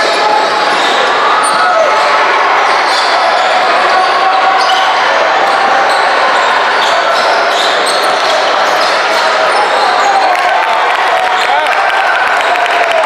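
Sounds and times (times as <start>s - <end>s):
voices of players and spectators: 0.0s - 13.0s.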